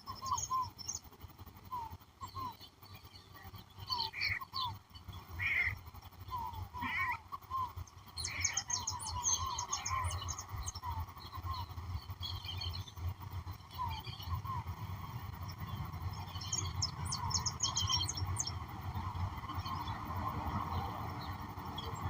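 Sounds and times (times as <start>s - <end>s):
high bird twittering: 0.0s - 22.0s
steady low rumble: 0.0s - 22.0s
wild birds calling: 0.0s - 22.0s
harsh rasping bird calls: 3.3s - 22.0s.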